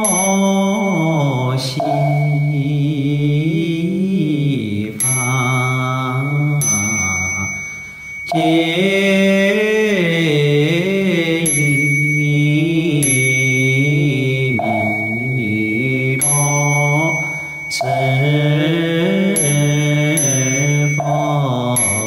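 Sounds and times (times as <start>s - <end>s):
high ringing tone: 0.0s - 4.0s, 5.0s - 22.0s
chanting in wavering lines: 0.0s - 22.0s
sustained drone: 0.8s - 22.0s.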